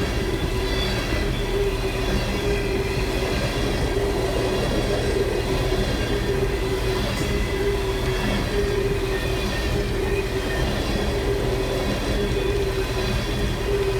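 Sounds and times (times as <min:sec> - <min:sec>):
faint whining wheels: 0:00.0 - 0:13.9
freight train wheels rumbling: 0:00.0 - 0:13.9.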